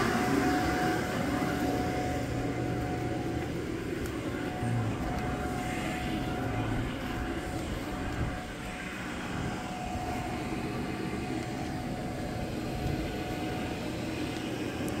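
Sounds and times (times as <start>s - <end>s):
electric blower whining: 0.0s - 15.0s.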